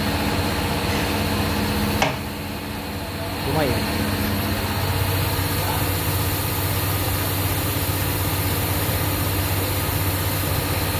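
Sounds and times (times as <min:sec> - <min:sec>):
machine humming: 0:00.0 - 0:10.9.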